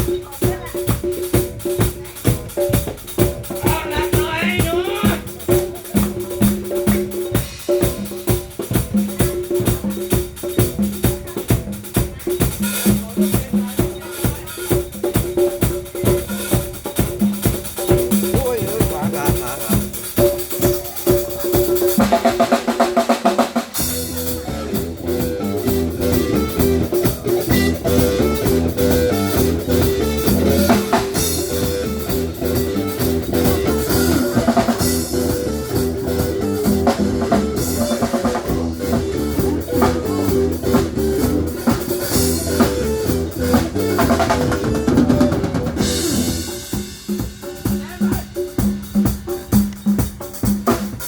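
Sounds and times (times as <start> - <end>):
bass and drums: 0.0 - 51.0
live band playing: 0.0 - 51.0.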